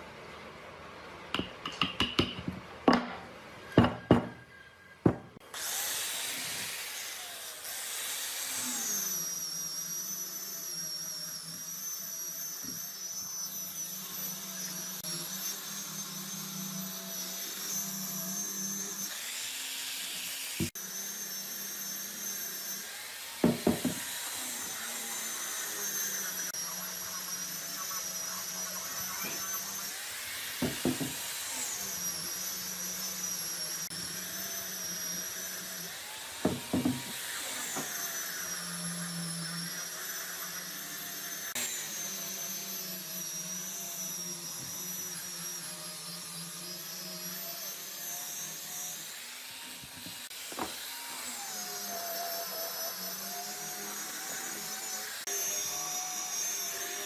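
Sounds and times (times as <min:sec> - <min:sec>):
power tool motor whining: 0:05.4 - 0:57.0.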